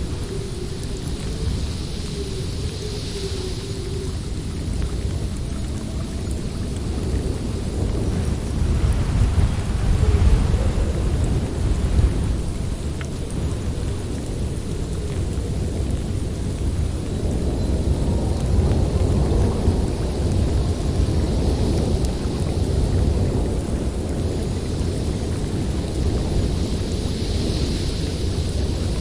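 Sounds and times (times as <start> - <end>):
high whistling hiss: 0.0 - 29.0
storm wind with deep rumble: 0.0 - 29.0.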